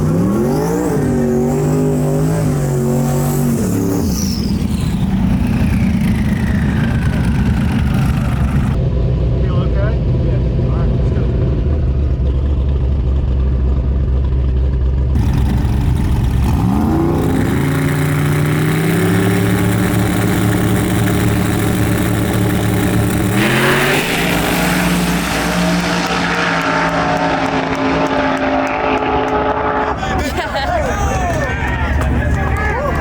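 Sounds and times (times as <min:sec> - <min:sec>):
car engine revving: 0:00.0 - 0:12.4, 0:15.1 - 0:30.6.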